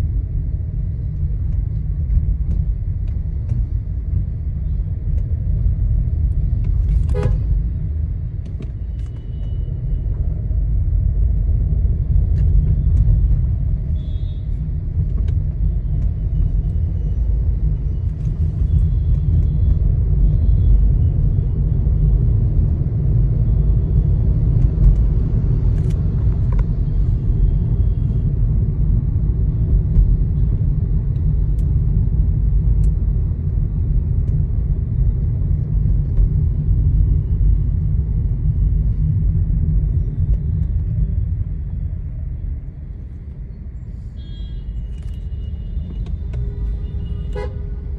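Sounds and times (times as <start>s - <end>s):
road and drive rumble: 0.0s - 47.9s.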